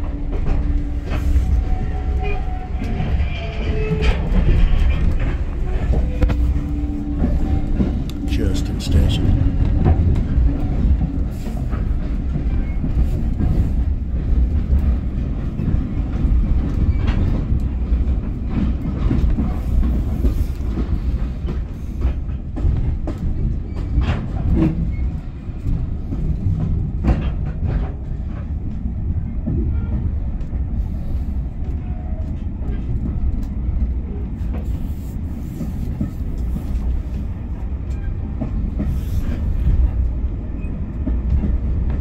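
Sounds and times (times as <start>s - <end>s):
train coach rumbling on track: 0.0s - 42.0s.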